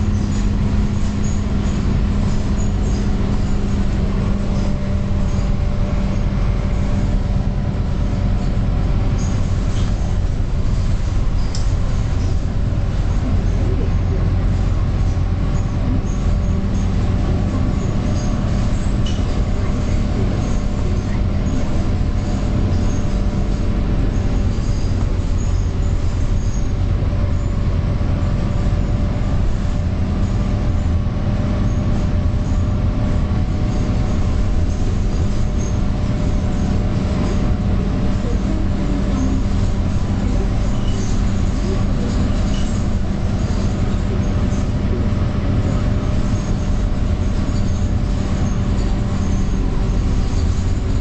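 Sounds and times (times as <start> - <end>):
bus engine drone: 0.0 - 51.0.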